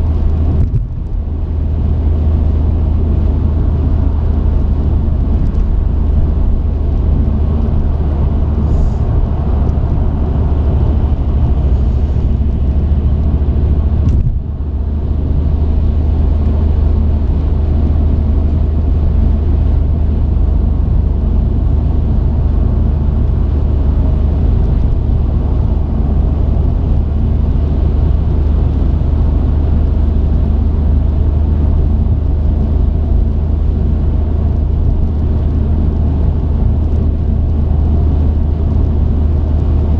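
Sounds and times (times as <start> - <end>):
road noise: 0.0 - 39.9
truck engine running: 0.0 - 39.9.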